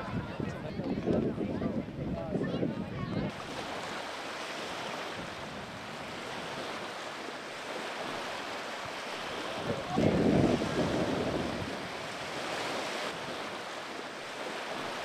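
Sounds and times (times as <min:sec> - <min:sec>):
waves lapping on shore: 0:00.0 - 0:15.0
wind: 0:00.0 - 0:15.0
wind buffeting microphone: 0:00.0 - 0:15.0.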